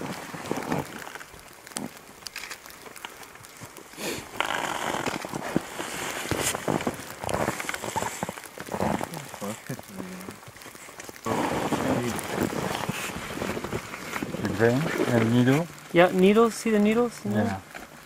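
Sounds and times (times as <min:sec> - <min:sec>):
nylon jackets rustling: 0:03.2 - 0:18.0.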